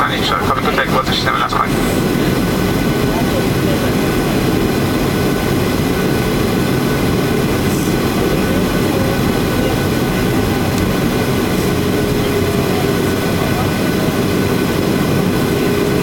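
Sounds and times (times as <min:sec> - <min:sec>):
airplane cabin drone: 0:00.0 - 0:16.0
faint steady tones: 0:00.0 - 0:16.0.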